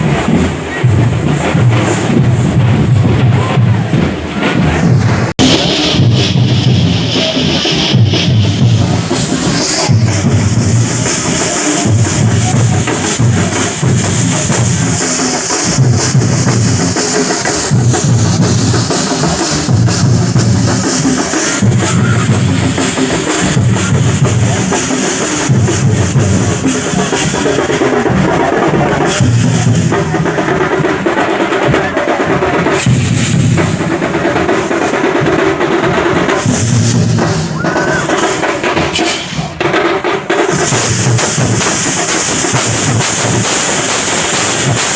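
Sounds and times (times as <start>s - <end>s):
deep booming drum beats: 0.0s - 44.9s.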